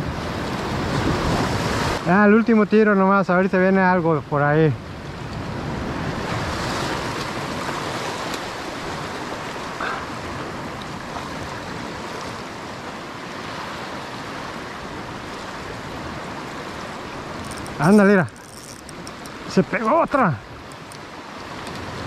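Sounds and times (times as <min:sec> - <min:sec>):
ocean surf on rocks: 0:00.0 - 0:22.0.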